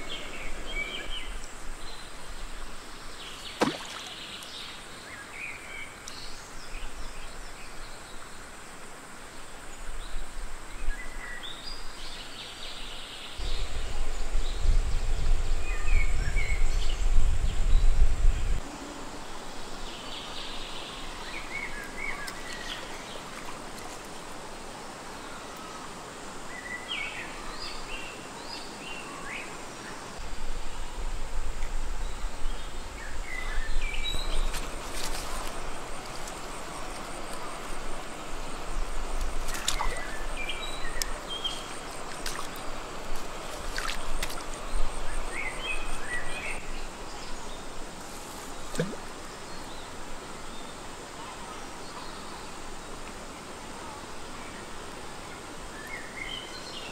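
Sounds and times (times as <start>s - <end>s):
insect drone: 0.0s - 56.9s.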